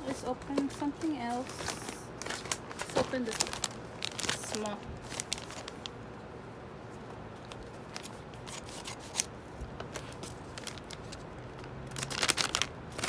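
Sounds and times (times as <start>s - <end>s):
packaging clicks and rustles: 0.0s - 6.0s, 7.4s - 13.0s.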